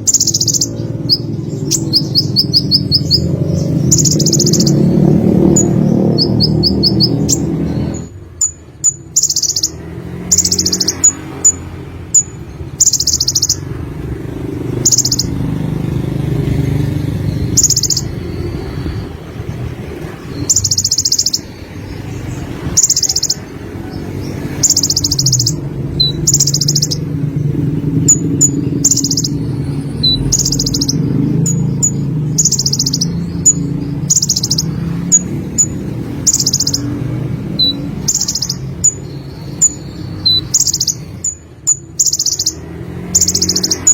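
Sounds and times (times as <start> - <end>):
sunbird singing trilled phrases: 0.0 - 13.9, 14.6 - 23.6, 24.2 - 43.9
sharp high bird chips: 0.0 - 43.9.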